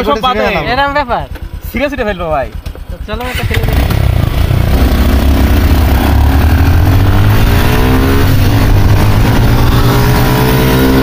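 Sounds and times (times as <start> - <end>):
motorcycles accelerating: 0.0 - 11.0.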